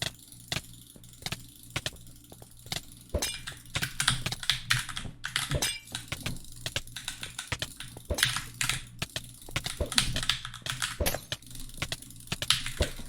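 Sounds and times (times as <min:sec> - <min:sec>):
rapid sharp clicks: 0:00.0 - 0:13.0.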